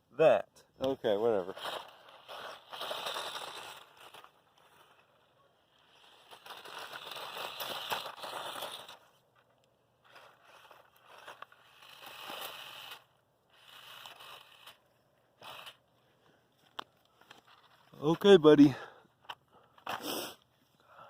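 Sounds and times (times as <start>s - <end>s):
toy truck tires spinning in dirt: 0.8s - 16.0s, 16.7s - 18.9s, 19.7s - 20.5s.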